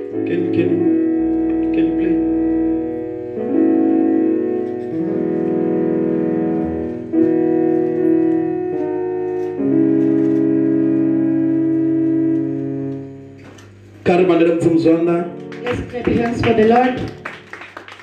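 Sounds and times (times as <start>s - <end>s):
keyboard playing slow chords: 0.0s - 18.0s.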